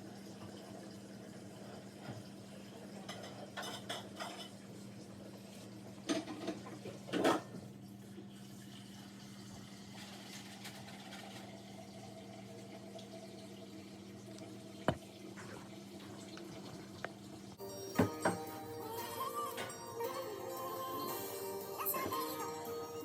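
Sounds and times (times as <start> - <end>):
low appliance hum: 0.0 - 23.0.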